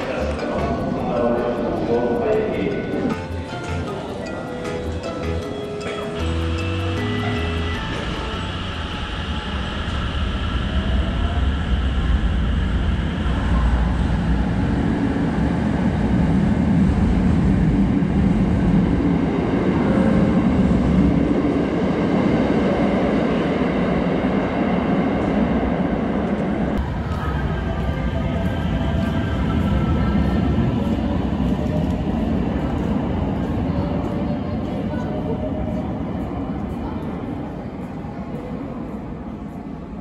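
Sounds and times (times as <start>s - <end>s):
electric train running past: 0.0s - 40.0s.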